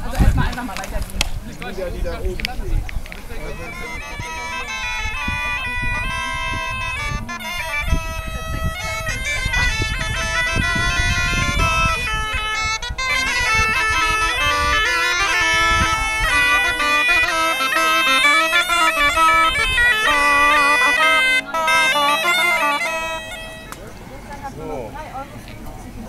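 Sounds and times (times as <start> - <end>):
shawm melody: 1.5 - 24.8
bagpipes with drones: 3.3 - 24.4.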